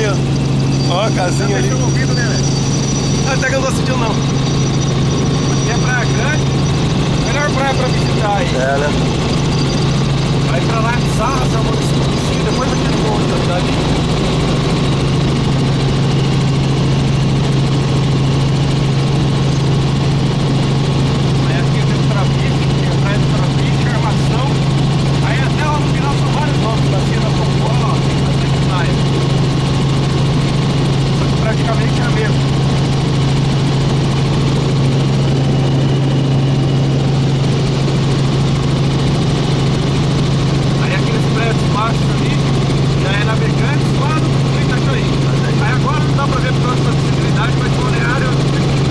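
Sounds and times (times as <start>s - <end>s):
helicopter engine and rotor drone: 0.0s - 48.9s.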